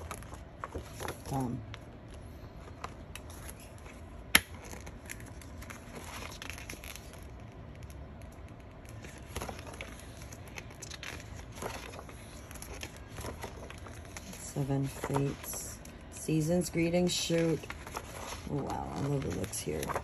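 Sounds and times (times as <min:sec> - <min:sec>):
pages turning and rustling: 0:00.0 - 0:20.0.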